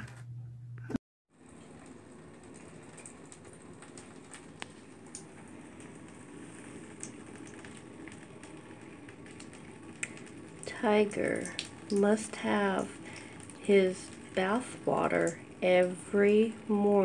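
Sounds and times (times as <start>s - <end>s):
water stream splashing into bathtub: 1.3s - 17.0s.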